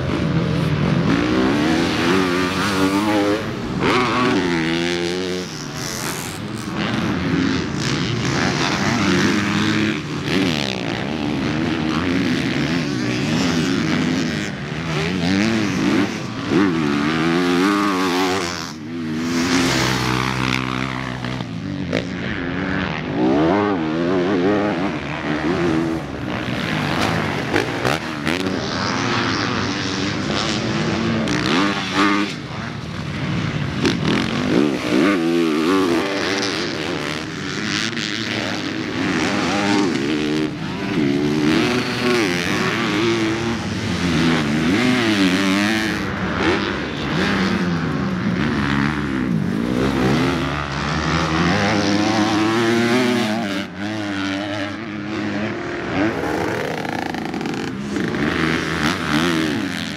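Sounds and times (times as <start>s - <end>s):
motocross engines revving: 0.0s - 59.9s.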